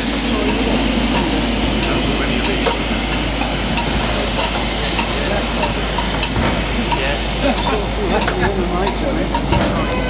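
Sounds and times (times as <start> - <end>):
steam locomotive hissing: 0.0 - 10.0.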